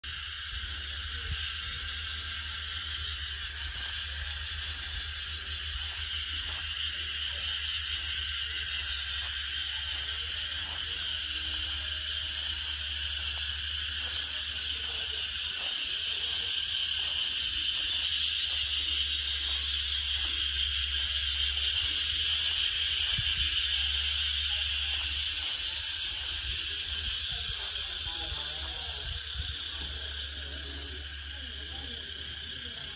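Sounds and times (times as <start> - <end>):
cicadas droning: 0.0 - 32.9.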